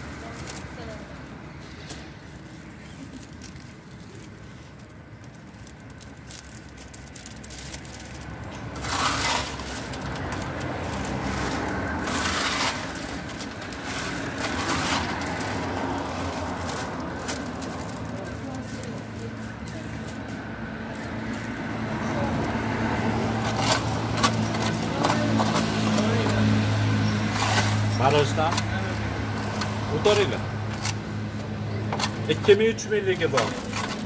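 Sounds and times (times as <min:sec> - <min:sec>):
plastic bag crinkling: 0:00.0 - 0:34.0.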